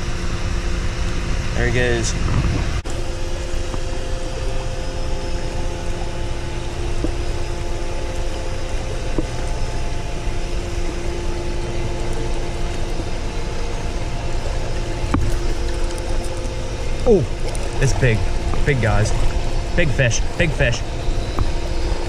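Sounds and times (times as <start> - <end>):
faint mechanical hum: 0.0 - 22.0.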